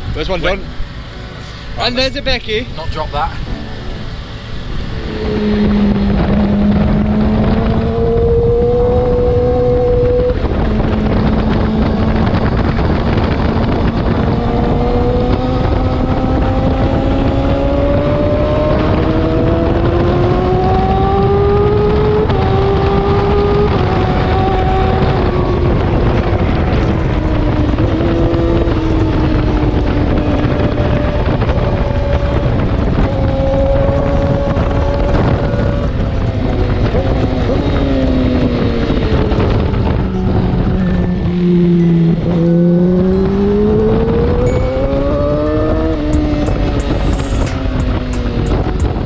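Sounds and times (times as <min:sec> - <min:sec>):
motorcycle engine at speed: 0:00.0 - 0:49.0
wind rushing over microphone: 0:00.0 - 0:49.0.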